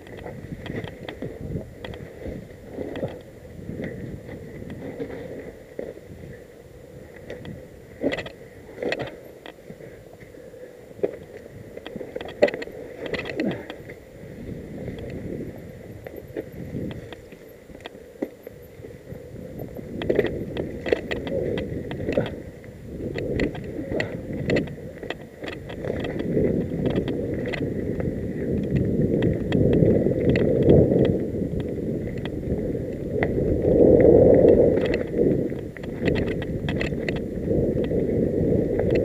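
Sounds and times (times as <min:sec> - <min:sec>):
bike rattling clicks: 0:00.0 - 0:06.0, 0:07.0 - 0:10.3, 0:11.0 - 0:39.0
bike tyres rumbling over stones: 0:00.0 - 0:39.0.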